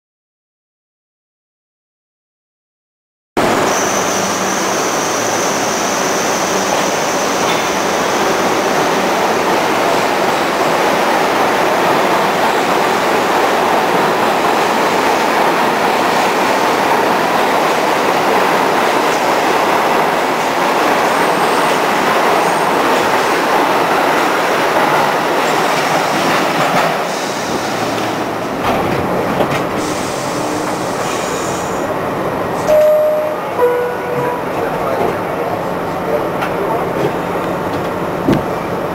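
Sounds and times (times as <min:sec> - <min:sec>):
subway train wheels on rail: 0:03.4 - 0:38.9.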